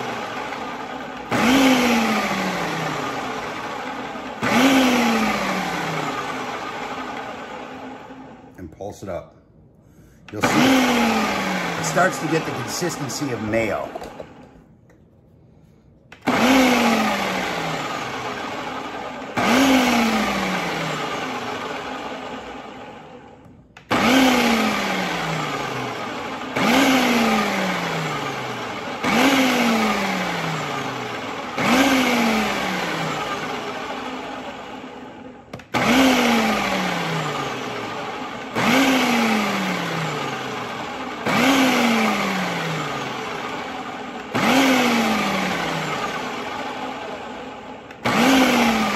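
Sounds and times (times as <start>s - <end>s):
food processor motor whirring: 0.0s - 8.4s, 10.3s - 14.6s, 16.1s - 48.9s.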